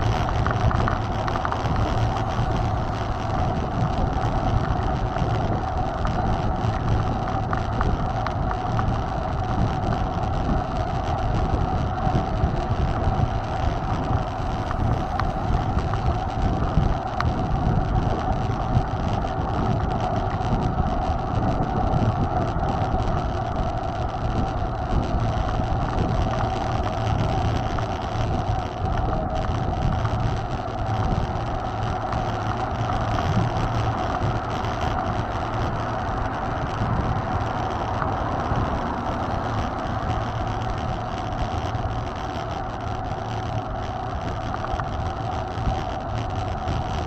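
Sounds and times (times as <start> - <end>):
bike tyres rolling: 0.0 - 47.0
wind on microphone: 0.0 - 47.0.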